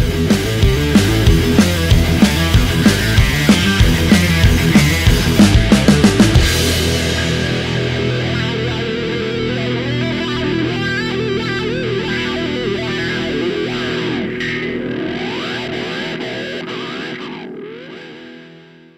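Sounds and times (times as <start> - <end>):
electric guitar with effects: 0.0 - 18.9.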